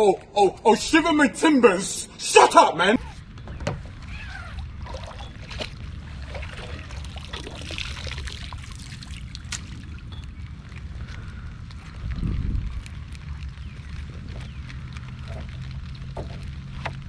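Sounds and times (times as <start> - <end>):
rain with water trickling: 3.0 - 17.0
steady low rumble: 3.0 - 17.0.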